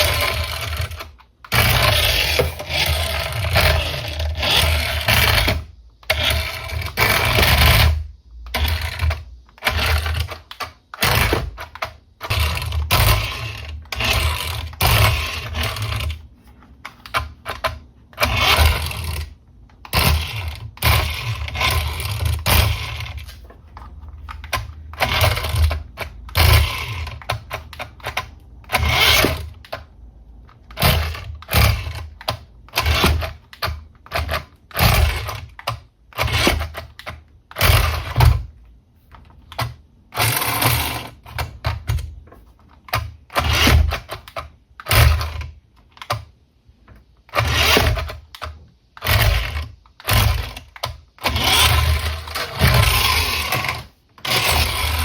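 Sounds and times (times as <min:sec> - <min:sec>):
plastic toy parts clicking: 0:00.0 - 0:46.3, 0:47.3 - 0:55.0.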